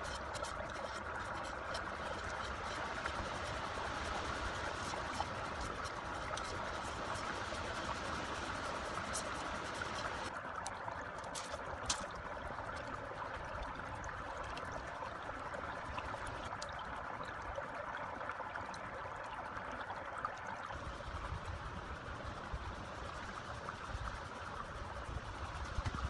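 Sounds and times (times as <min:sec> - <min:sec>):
stream running over shallows: 0:00.0 - 0:26.0.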